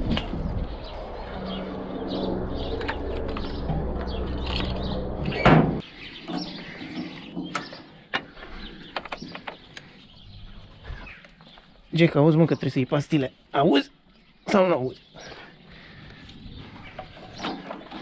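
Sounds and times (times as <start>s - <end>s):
birds chirping: 0.4s - 18.0s.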